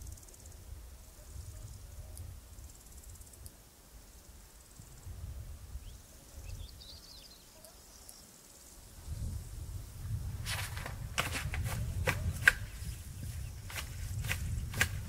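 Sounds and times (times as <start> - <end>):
faint trilling insect: 0.0 - 15.0.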